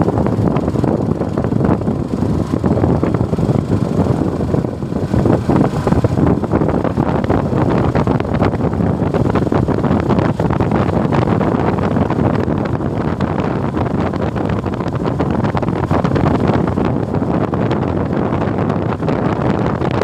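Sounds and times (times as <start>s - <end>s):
motorcycle engine and road noise: 0.0s - 20.0s
wind buffeting microphone: 0.0s - 20.0s.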